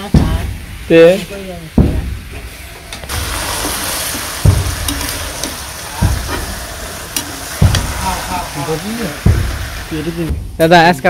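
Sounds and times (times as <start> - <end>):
food sizzling in pot: 0.0 - 11.0
dull stirring knocks: 1.7 - 10.6.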